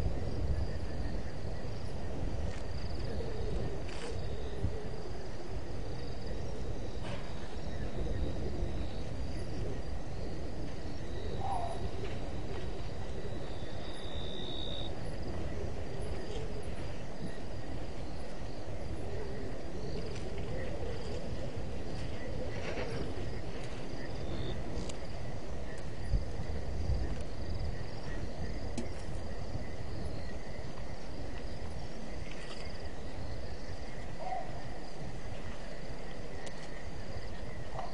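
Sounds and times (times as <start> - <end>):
insects trilling: 0.0 - 37.9.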